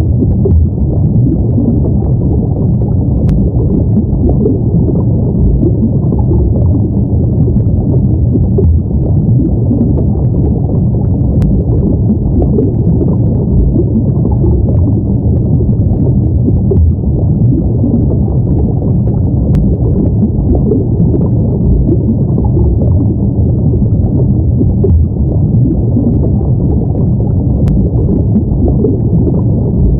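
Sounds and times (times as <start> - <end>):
muffled underwater rumble: 0.0 - 29.9.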